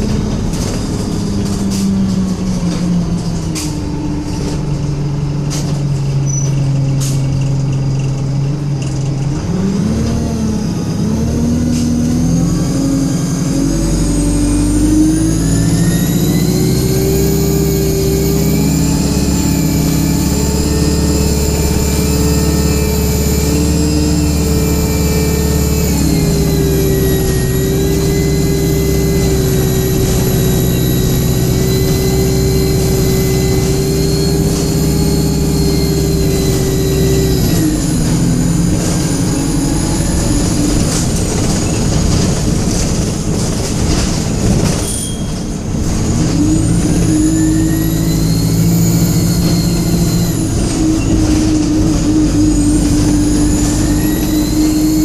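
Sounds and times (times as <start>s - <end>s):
bus engine idling and revving: 0.0s - 55.0s
high-pitched engine whine: 0.0s - 55.0s.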